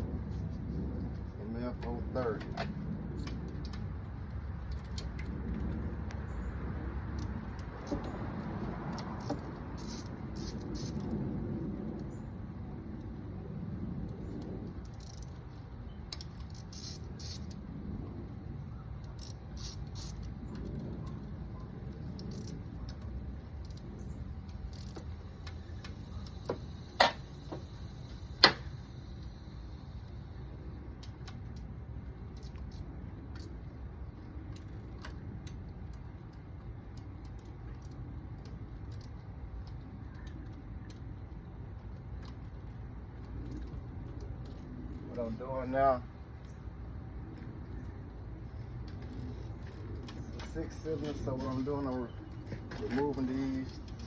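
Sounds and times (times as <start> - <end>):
low background rumble: 0.0 - 54.0.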